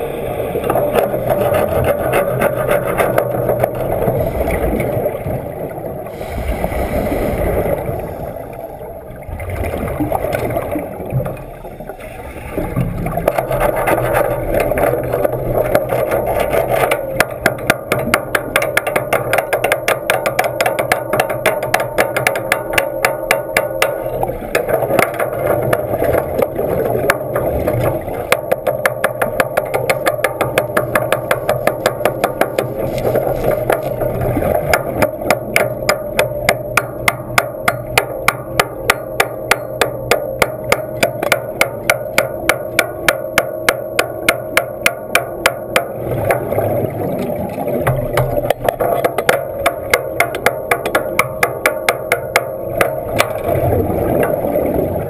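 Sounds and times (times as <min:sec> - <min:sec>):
rapid underwater clicks: 0:00.0 - 0:05.7, 0:09.5 - 0:55.0
steady hum: 0:00.0 - 0:55.0.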